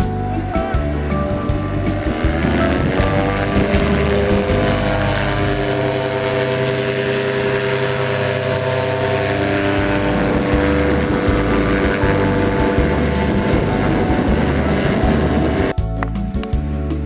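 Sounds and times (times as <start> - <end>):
paramotor engine drone: 0.0 - 17.0.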